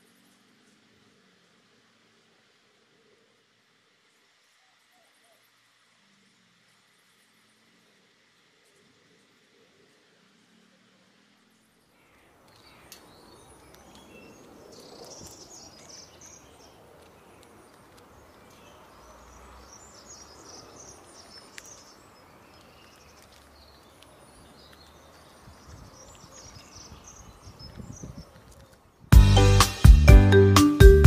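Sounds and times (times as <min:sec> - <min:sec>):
small birds chirping: 0:04.1 - 0:29.1.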